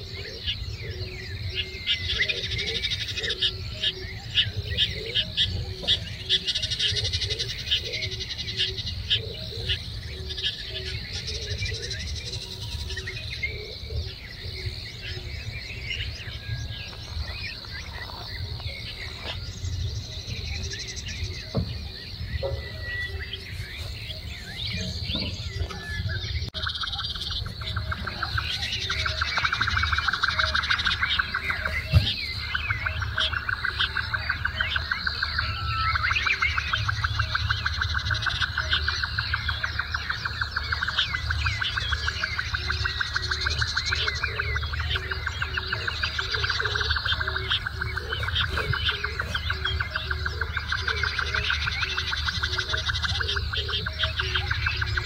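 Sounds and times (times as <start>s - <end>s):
wild birds chirping and calling: 0.0s - 55.0s.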